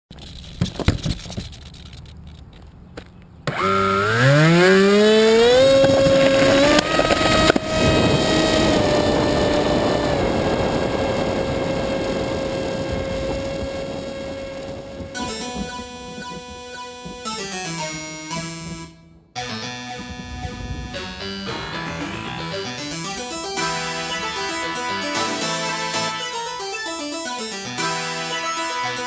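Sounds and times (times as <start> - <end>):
electric motor and propeller whining: 3.4 - 19.0, 19.6 - 29.0.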